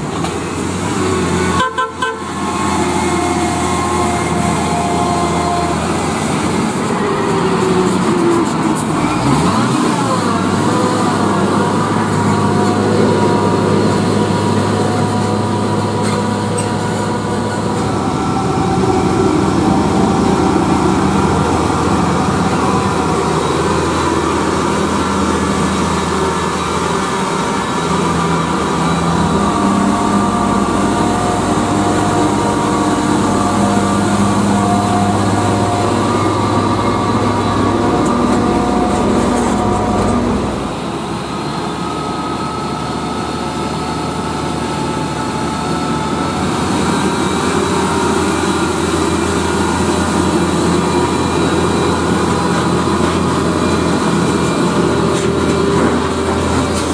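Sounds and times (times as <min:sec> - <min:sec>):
diesel truck engines running: 0:00.0 - 0:56.9.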